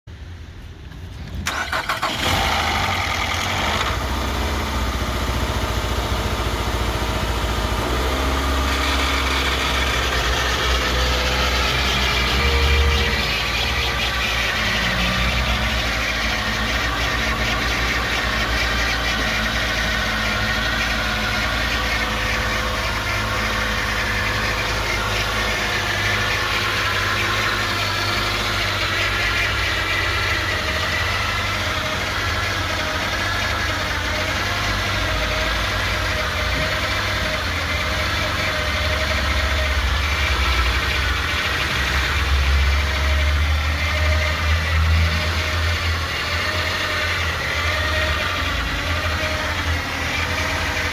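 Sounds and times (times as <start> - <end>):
car engine idling: 0.1 - 50.9.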